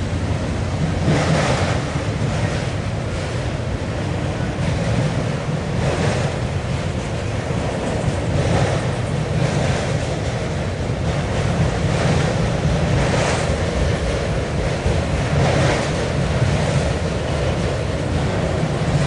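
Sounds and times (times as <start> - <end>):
freight train wheels rumbling: 0.0 - 19.0
wind noise on microphone: 0.0 - 19.0.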